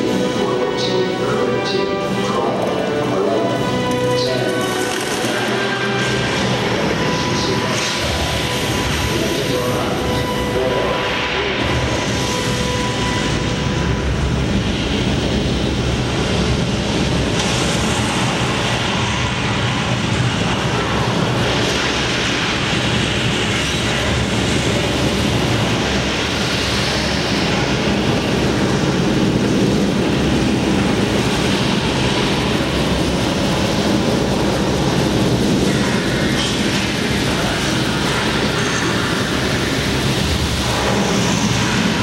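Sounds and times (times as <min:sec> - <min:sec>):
rocket liftoff rumble over loudspeakers: 0:00.0 - 0:42.0.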